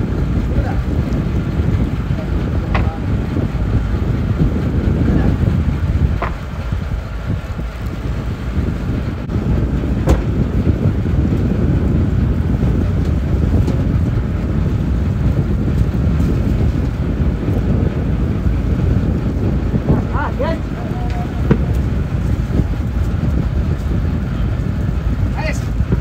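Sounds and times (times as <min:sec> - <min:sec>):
boat engine running: 0:00.0 - 0:26.0
wind buffeting microphone: 0:00.0 - 0:26.0.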